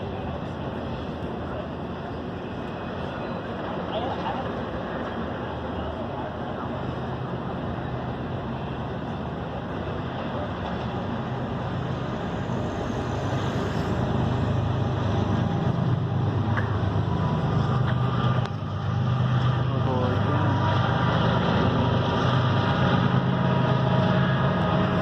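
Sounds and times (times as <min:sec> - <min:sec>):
road or rail noise: 0:00.0 - 0:25.0
vehicle running with low hum: 0:00.0 - 0:25.0.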